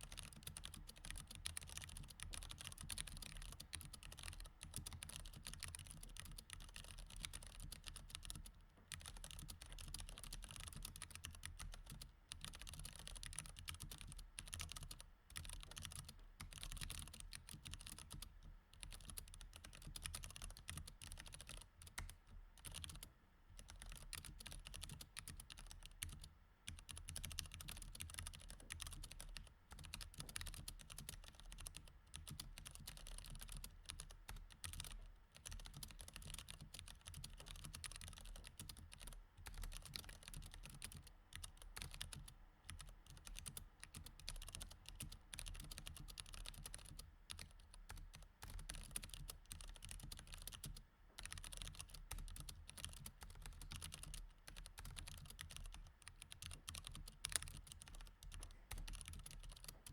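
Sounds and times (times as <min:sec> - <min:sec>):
typing on mechanical keyboard: 0:00.0 - 0:59.9.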